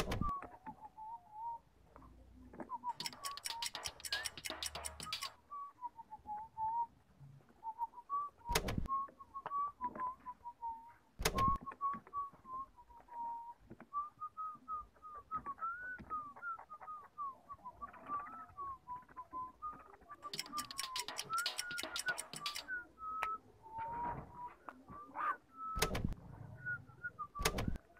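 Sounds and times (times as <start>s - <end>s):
person whistling a tune: 2.6s - 27.8s.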